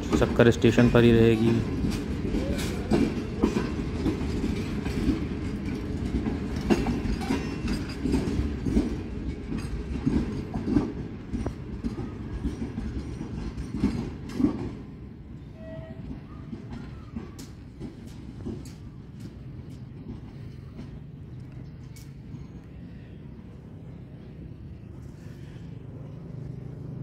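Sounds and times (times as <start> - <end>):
train wheels clicking over rail joints: 0.0 - 26.9
low train rumble: 0.0 - 27.0.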